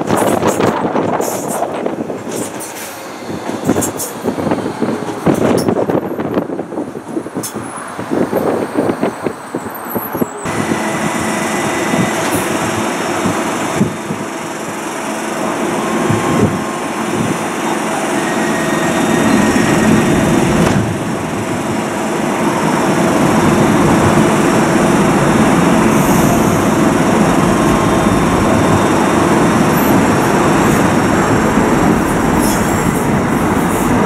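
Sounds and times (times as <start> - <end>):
train running gear rumble: 0.0 - 34.0.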